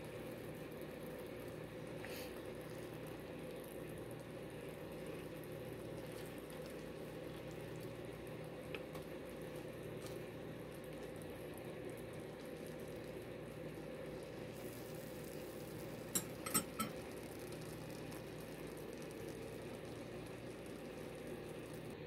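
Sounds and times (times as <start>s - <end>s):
omelette sizzling in pan: 0.0s - 22.0s.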